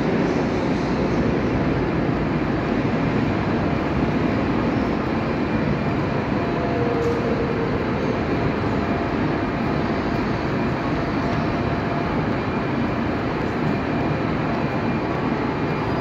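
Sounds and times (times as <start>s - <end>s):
railway station rumbling ambience: 0.0s - 16.0s
trains running or idling: 0.0s - 16.0s.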